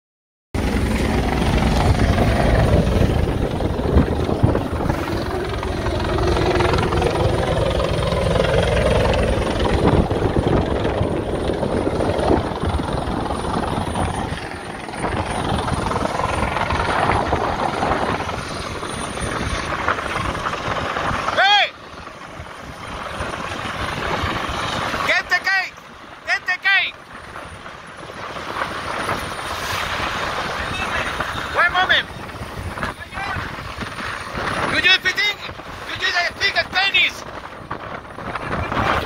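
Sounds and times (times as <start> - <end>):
helicopter rotor chopping: 0.6 - 39.0.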